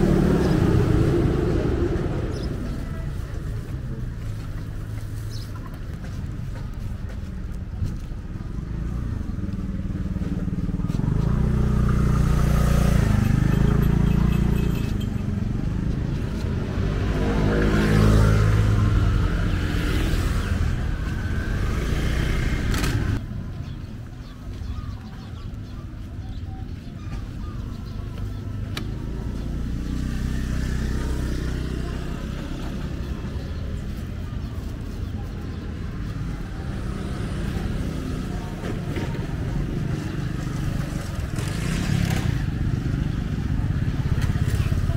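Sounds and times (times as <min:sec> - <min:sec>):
vehicles passing: 0:00.0 - 0:44.9.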